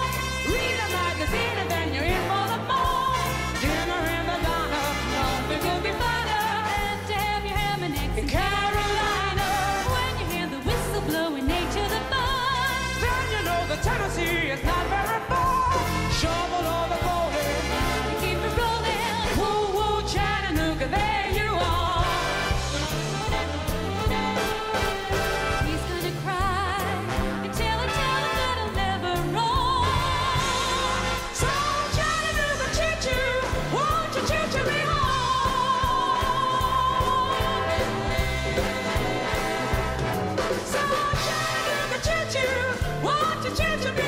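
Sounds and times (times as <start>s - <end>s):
song with singing over beat: 0.0s - 44.0s.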